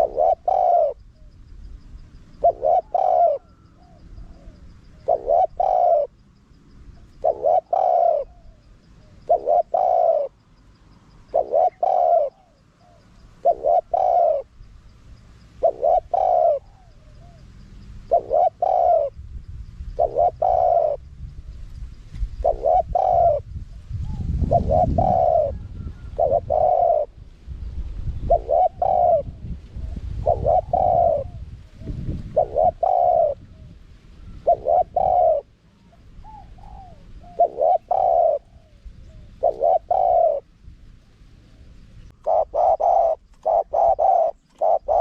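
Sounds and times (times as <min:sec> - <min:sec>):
dove cooing: 0:00.0 - 0:01.6, 0:02.2 - 0:06.2, 0:07.0 - 0:10.4, 0:11.1 - 0:14.6, 0:15.6 - 0:19.2, 0:19.9 - 0:21.1, 0:22.2 - 0:27.3, 0:28.1 - 0:40.6, 0:41.5 - 0:45.0.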